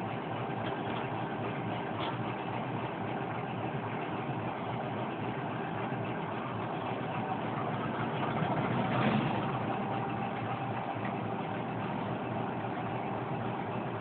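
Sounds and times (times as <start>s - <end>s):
diesel locomotive engine idling: 0.0s - 14.0s.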